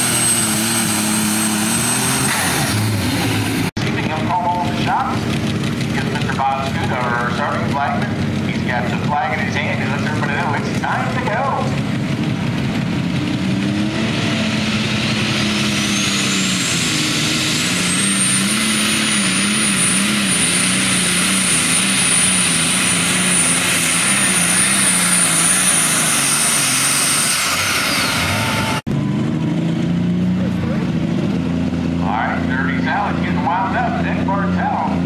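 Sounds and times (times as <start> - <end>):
high turbocharger whine: 0.0 - 35.0
tractor engine under full load: 0.0 - 35.0.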